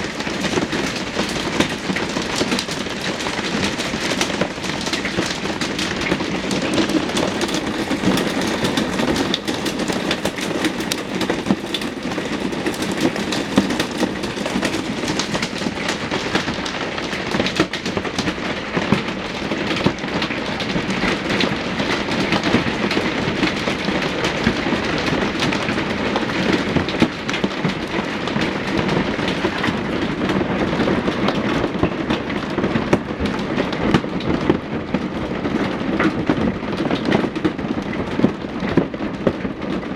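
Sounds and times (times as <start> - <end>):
heavy hail clattering: 0.0 - 39.9.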